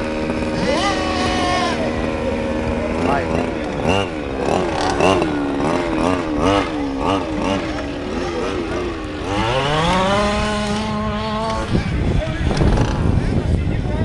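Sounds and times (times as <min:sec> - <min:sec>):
small two-stroke engine revving: 0:00.0 - 0:13.6.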